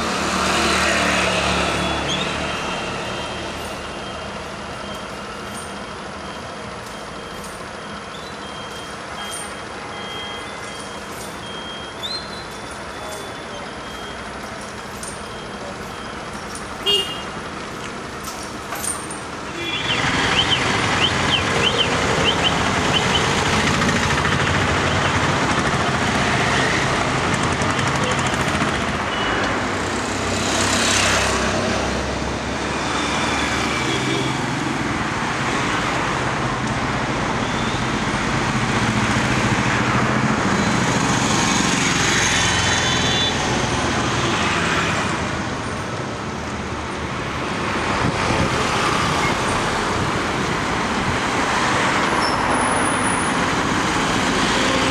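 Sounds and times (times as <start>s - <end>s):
busy street traffic: 0.0s - 54.9s.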